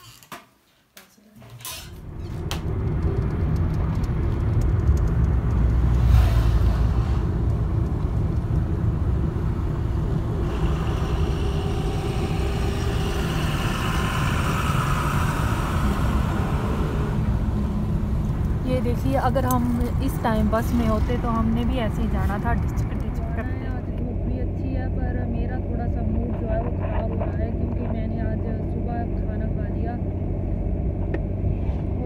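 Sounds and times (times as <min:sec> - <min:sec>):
vehicle engine and road rumble: 0:01.5 - 0:32.0.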